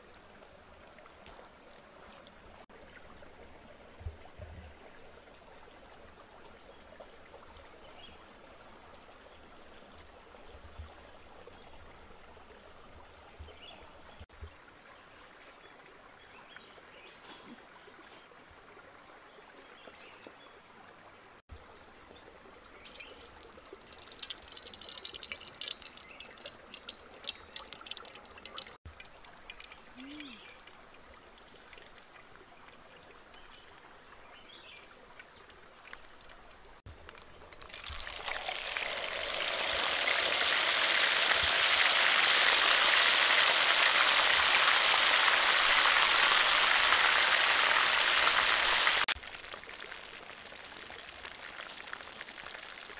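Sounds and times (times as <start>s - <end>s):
rocky stream trickling: 0.0s - 52.9s.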